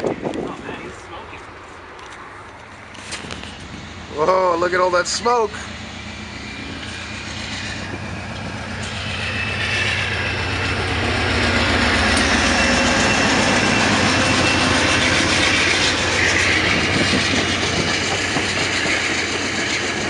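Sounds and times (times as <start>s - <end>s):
jet engine roar with whine: 0.0s - 20.0s
idling diesel locomotive throb: 3.3s - 20.0s.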